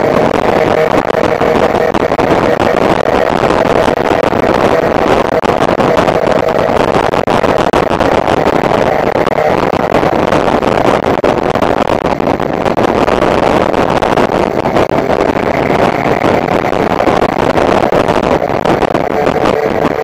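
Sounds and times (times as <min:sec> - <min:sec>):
motorcycle engine drone: 0:00.0 - 0:20.0
wind buffeting microphone: 0:00.0 - 0:20.0.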